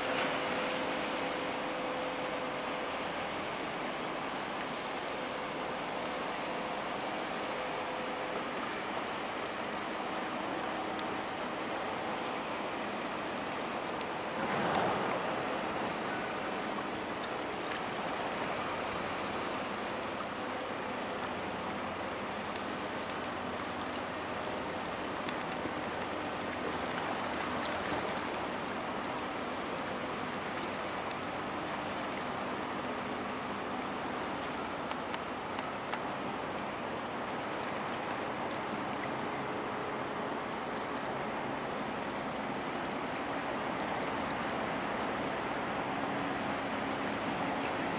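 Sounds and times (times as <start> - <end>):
bow wave breaking along hull: 0.0 - 47.9.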